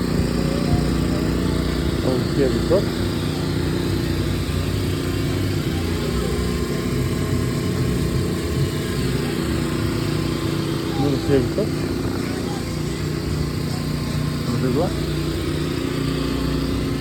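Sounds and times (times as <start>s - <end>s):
motor running with low hum: 0.0s - 17.0s.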